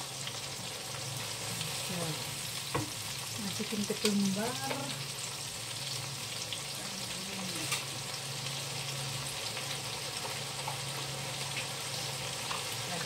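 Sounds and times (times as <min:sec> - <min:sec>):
paste sizzling in a wok: 0:00.0 - 0:13.0.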